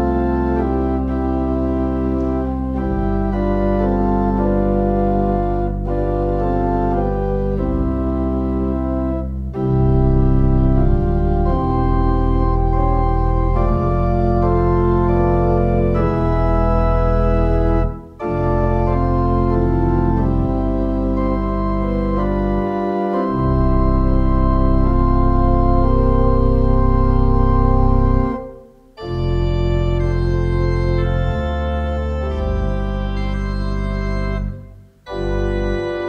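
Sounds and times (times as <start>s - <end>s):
church organ chords: 0.0s - 36.0s.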